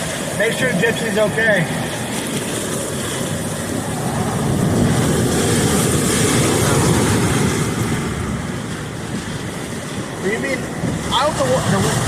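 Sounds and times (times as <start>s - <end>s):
storm wind: 0.0s - 12.0s
torrential rain: 0.0s - 12.0s.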